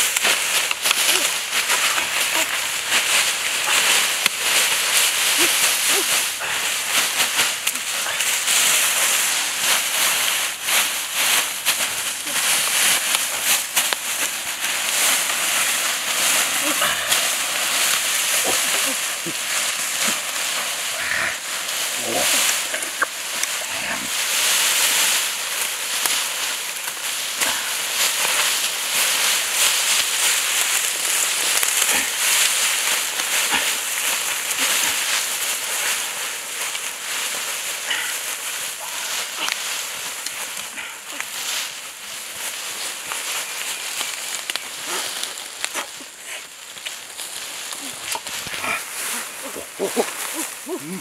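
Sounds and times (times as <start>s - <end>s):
leaves rustling and crackling: 0.0s - 51.0s.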